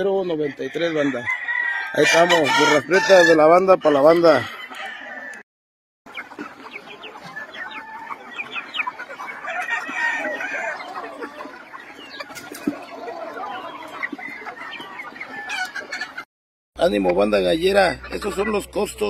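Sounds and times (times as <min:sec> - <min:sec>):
chickens clucking and calling: 0:00.0 - 0:05.4, 0:06.1 - 0:19.0.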